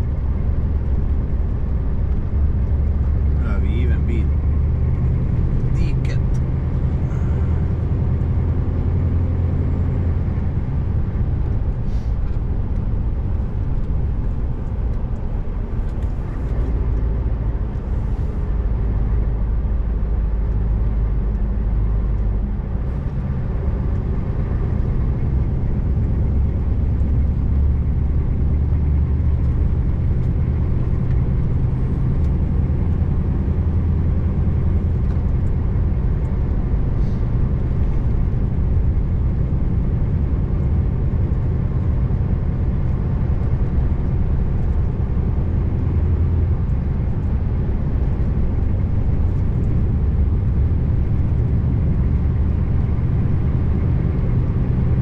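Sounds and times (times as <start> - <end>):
diesel truck engine running: 0.0 - 55.0
road noise: 0.0 - 55.0.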